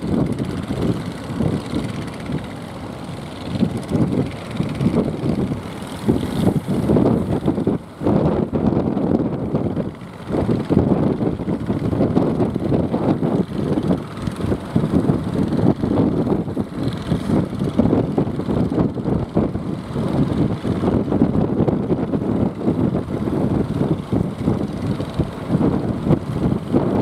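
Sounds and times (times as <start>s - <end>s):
boat engines running: 0.0s - 27.0s
wind buffeting microphone: 0.0s - 27.0s.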